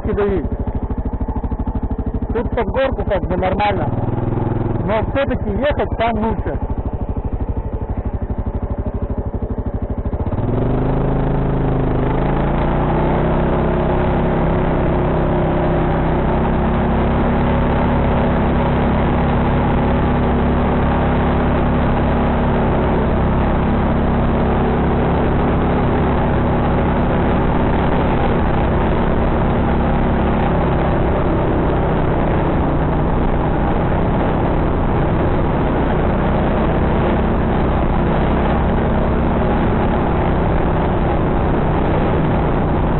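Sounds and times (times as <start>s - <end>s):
quad bike engine revving: 0.0s - 42.9s.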